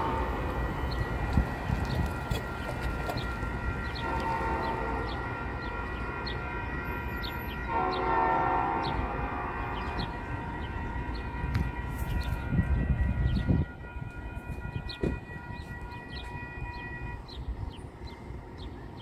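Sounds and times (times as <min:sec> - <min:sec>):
distant train horn blasts: 0:00.0 - 0:18.8.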